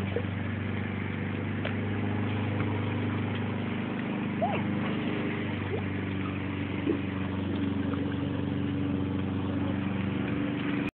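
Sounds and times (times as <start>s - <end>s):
engine running steadily: 0.0s - 10.9s.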